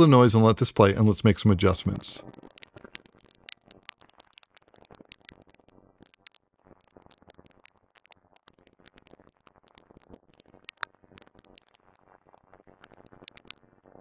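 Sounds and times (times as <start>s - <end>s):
faint sharp clicks: 2.2s - 13.7s.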